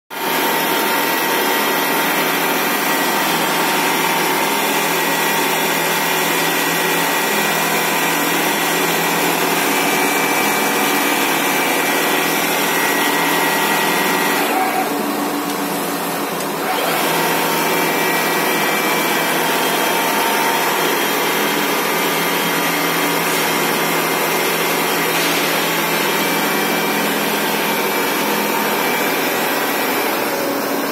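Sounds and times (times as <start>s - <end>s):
quilting machine running: 0.1s - 30.9s.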